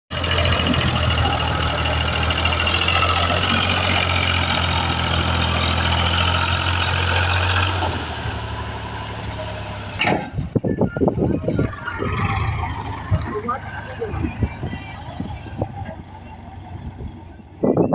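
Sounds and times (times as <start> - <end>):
tractor diesel engine running: 0.1 - 17.9.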